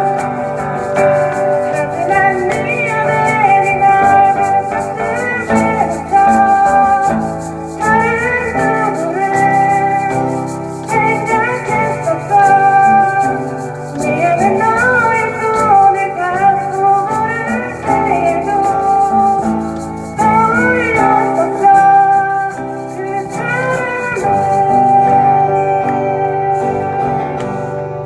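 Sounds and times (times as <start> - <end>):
melodic lead line bending: 0.0 - 28.0.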